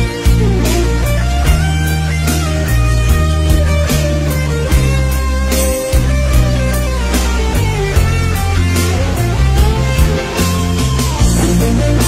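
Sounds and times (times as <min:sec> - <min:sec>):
bass: 0:00.0 - 0:12.0
electric guitar lead: 0:00.0 - 0:12.0.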